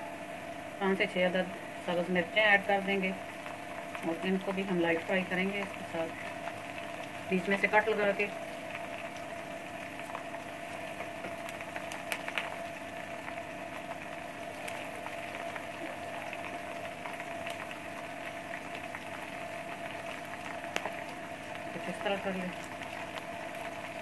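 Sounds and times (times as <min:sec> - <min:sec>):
steady hum: 0:00.0 - 0:24.0
onions sizzling in hot oil: 0:00.1 - 0:24.0.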